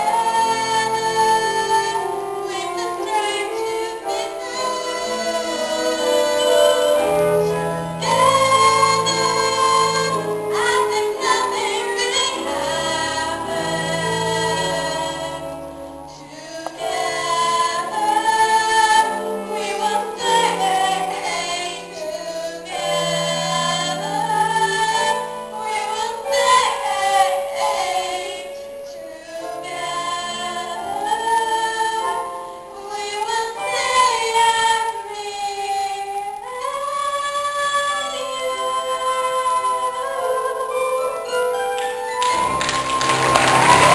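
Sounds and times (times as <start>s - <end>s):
instrumental accompaniment: 0.0s - 43.9s
voices singing: 0.0s - 43.9s.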